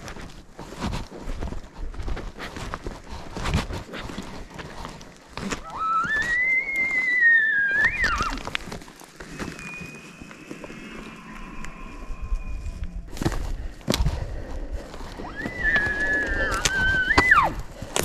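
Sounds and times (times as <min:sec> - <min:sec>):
footsteps on loose rock: 0:00.0 - 0:11.0, 0:12.7 - 0:18.0.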